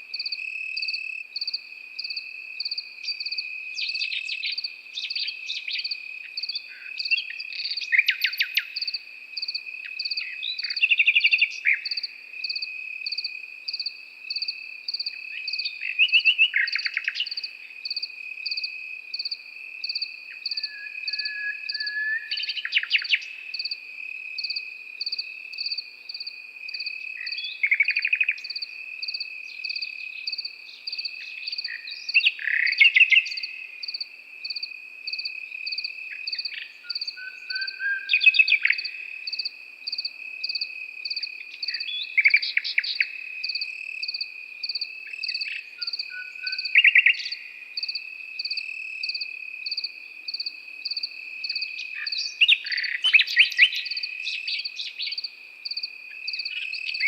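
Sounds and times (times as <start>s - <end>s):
nightingale singing: 0.0s - 23.8s, 24.4s - 57.0s
insect chirping in pulses: 0.1s - 57.0s.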